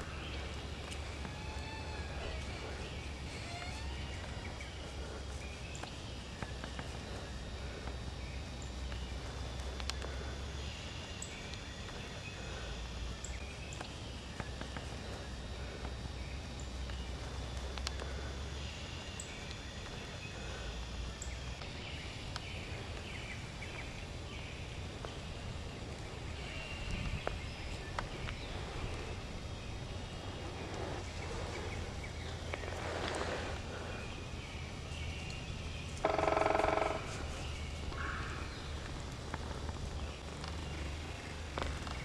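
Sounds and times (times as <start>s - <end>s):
steady low rumble: 0.0s - 36.1s, 37.0s - 42.0s
sharp ticks and snaps: 0.0s - 42.0s
small birds chirping: 0.0s - 42.0s.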